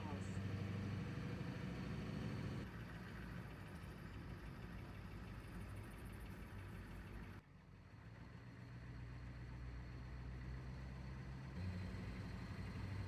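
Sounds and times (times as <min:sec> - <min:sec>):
van engine and road rumble: 0:00.0 - 0:13.0.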